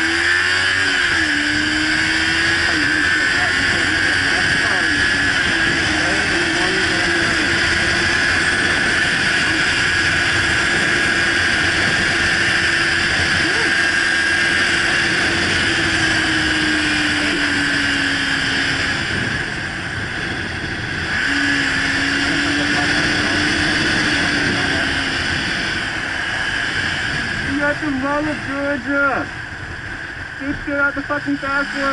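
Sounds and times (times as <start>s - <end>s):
motorcycle engine drone: 0.0s - 31.9s
wind rushing over microphone: 0.0s - 31.9s.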